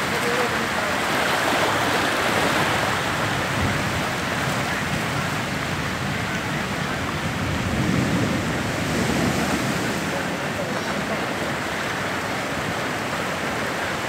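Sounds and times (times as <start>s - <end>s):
rough sea surging over shore: 0.0s - 14.0s
water rushing and churning: 0.0s - 14.0s.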